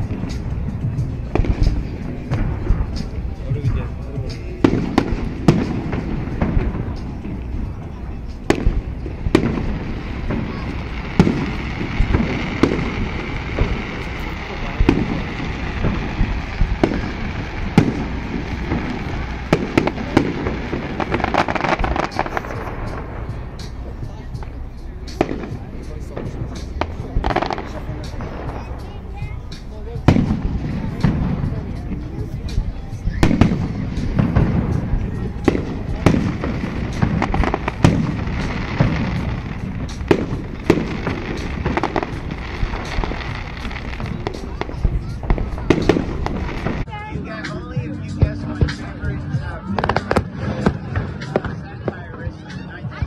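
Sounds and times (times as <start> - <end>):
fireworks crackling pops: 0.0 - 49.0, 49.7 - 52.7
steady rumble: 0.0 - 52.4
fireworks bangs: 0.0 - 53.0.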